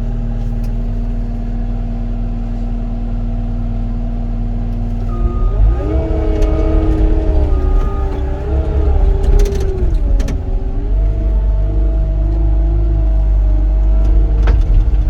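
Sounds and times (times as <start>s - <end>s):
diesel engine revving: 2.4s - 15.0s.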